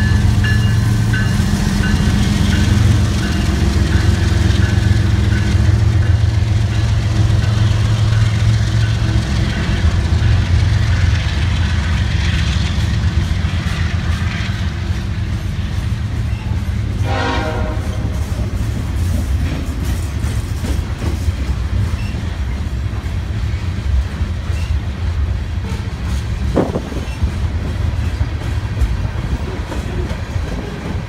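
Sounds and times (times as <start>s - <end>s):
diesel locomotive engines droning: 0.0s - 31.0s.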